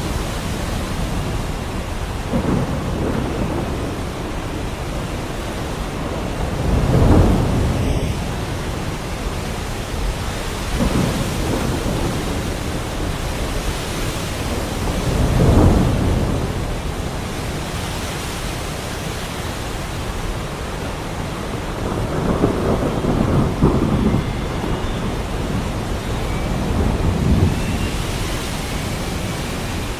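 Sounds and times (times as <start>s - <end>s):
heavy rain: 0.0s - 29.9s
thunder rumbling: 0.0s - 29.9s.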